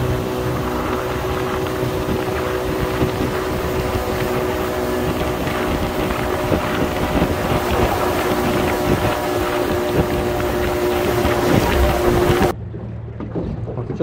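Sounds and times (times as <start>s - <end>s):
wind buffeting microphone: 0.0s - 12.6s
outboard motor running: 0.0s - 14.0s.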